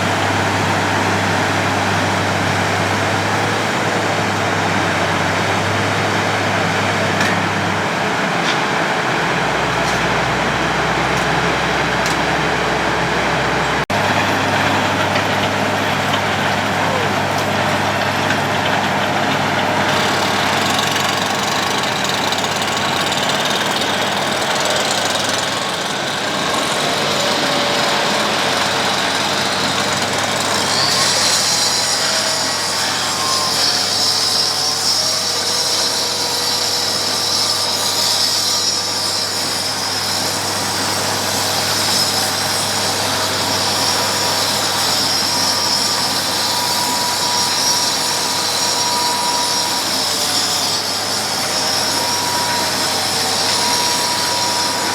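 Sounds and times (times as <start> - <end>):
road planing machine engine drone: 0.0 - 54.9.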